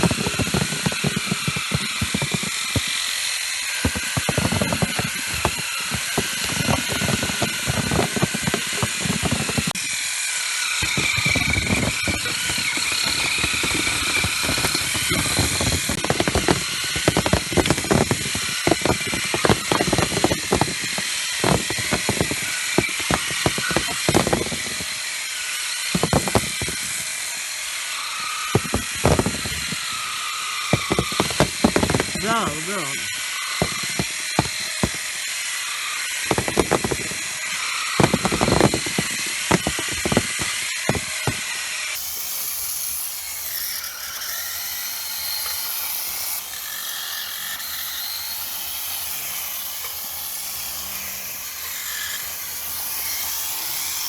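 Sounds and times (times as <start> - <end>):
electric harvesting combs whining: 0.0 - 54.0.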